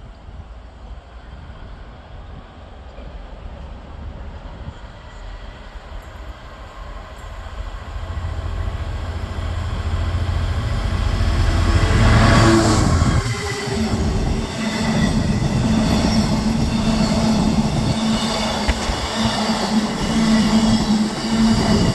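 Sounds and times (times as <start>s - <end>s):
diesel locomotive engine drone: 0.0s - 21.9s.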